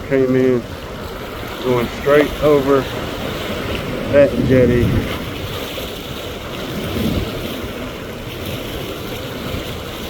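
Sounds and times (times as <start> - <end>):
surf washing over rocks: 0.0 - 10.0
wind buffeting microphone: 0.0 - 10.0.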